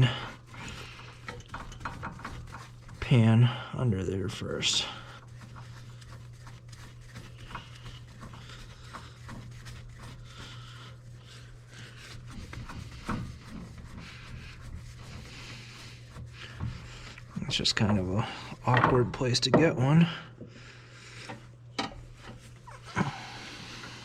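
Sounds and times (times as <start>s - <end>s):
hands and tools scraping: 0.0s - 19.8s, 21.2s - 24.0s
steady low hum: 0.0s - 24.0s.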